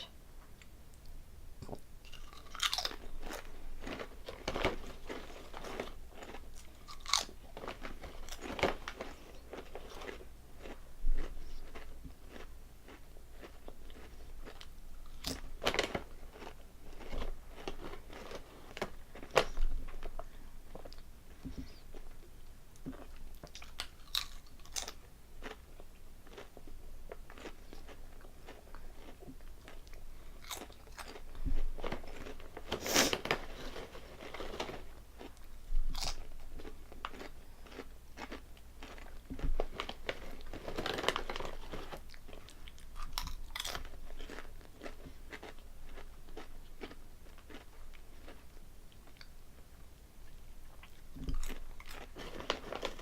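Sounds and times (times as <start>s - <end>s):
chips crunching while chewed: 1.6s - 21.0s, 22.9s - 49.3s, 50.8s - 53.0s.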